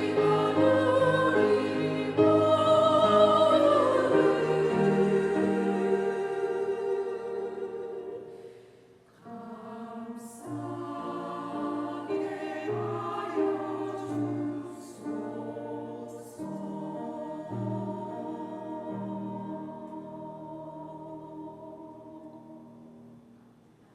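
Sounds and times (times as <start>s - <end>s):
church choir singing: 0.0s - 23.3s.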